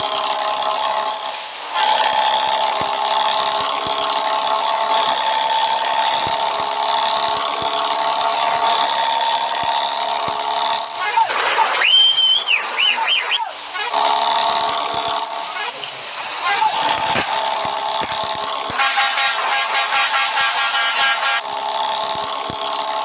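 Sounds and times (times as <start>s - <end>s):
heavy truck running: 0.0s - 23.0s.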